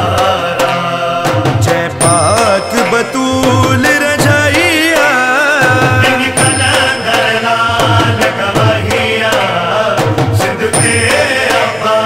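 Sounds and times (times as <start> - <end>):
man singing: 0.0 - 12.0
percussion beat: 0.0 - 12.0.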